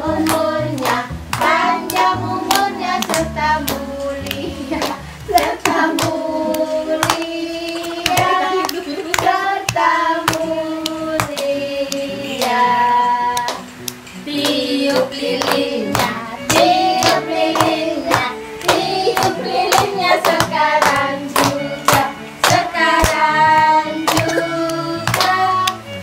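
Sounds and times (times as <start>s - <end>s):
group singing: 0.0s - 13.6s, 14.2s - 26.0s
hands clapping in time: 0.1s - 12.6s, 13.3s - 25.9s.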